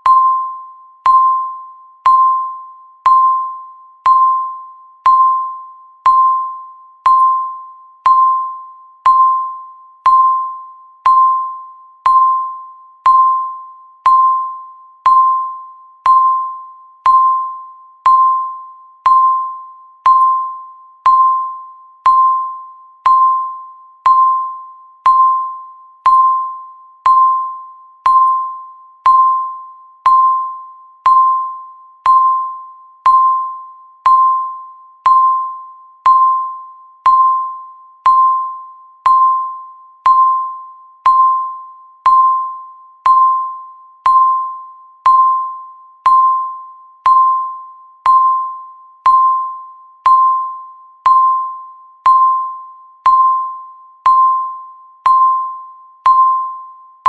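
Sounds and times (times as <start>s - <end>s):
timer chime tone: 0.0s - 57.0s.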